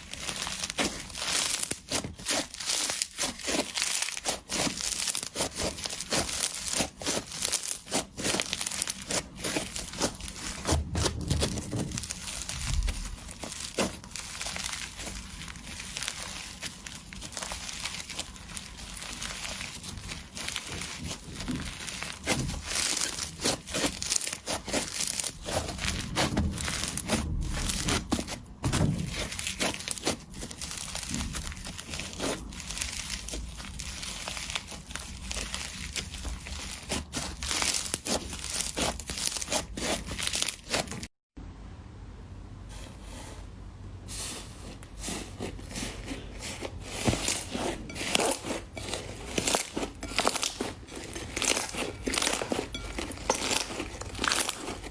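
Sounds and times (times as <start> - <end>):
slime squeezed crackling: 0.0 - 41.1, 46.1 - 54.9.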